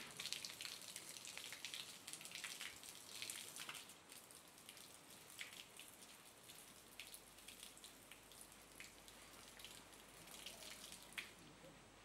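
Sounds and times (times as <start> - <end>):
water splashing from a hose: 0.0 - 11.4
small drip ticks: 0.0 - 11.5.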